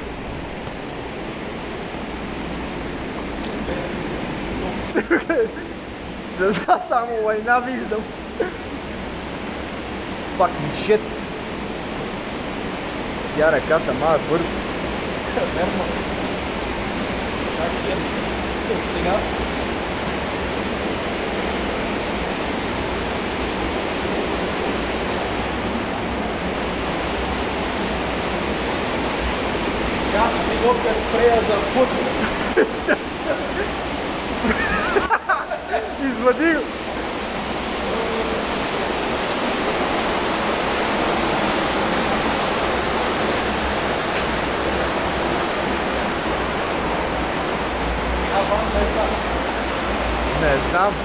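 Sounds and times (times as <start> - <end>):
river water rushing in tunnel: 0.0 - 51.0.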